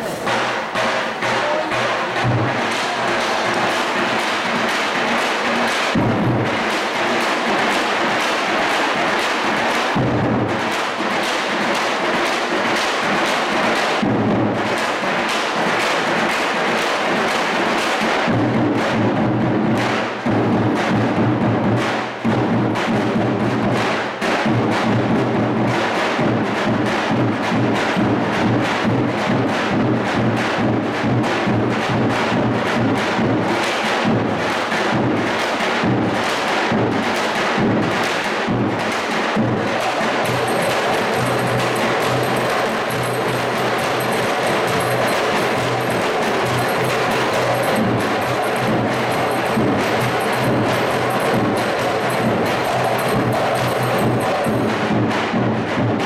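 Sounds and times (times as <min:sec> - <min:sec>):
frame drums beating: 0:00.0 - 0:56.0.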